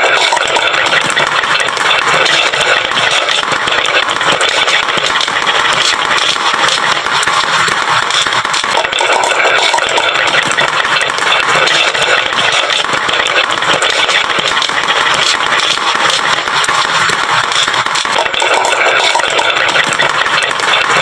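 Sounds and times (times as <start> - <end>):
marbles rattling down wooden run: 0.0 - 21.0.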